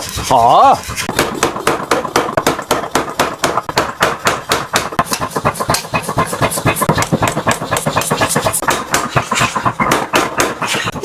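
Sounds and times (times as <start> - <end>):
rapid hammer blows on hot steel: 0.0 - 11.0.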